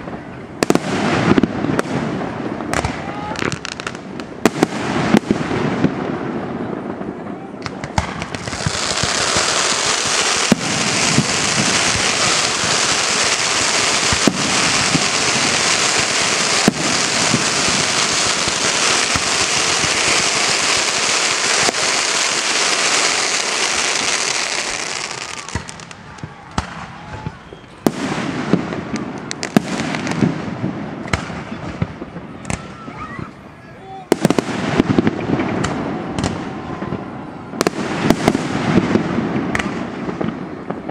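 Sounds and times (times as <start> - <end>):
fireworks bangs: 0.0 - 40.9
fireworks crackling: 0.0 - 40.9.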